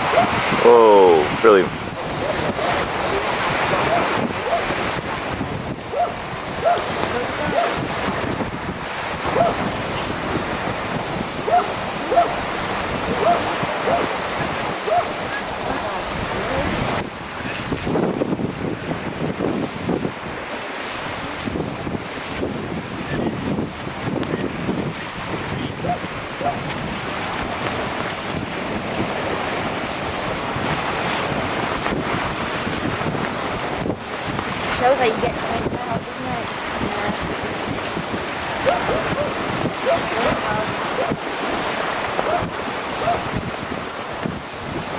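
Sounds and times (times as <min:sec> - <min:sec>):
surf on beach: 0:00.0 - 0:44.9
wind buffeting microphone: 0:00.0 - 0:44.9.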